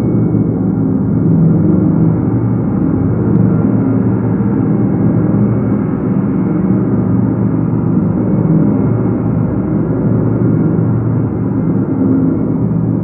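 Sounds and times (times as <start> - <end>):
gongs droning: 0.0 - 13.0.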